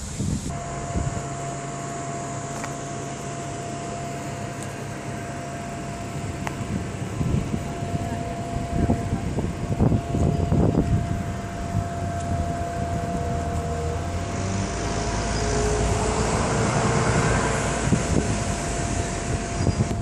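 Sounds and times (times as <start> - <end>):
low rumbles: 0.0 - 20.0
machine hum with whine: 0.0 - 20.0.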